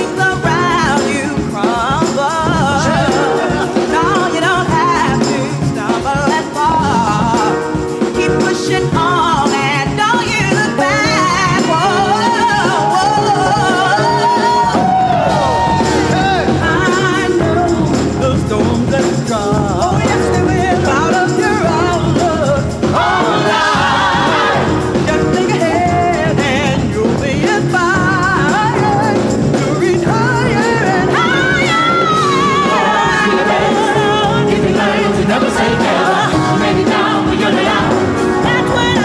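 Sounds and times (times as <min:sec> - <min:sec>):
band accompaniment: 0:00.0 - 0:39.0
choir singing with vibrato: 0:00.0 - 0:39.0.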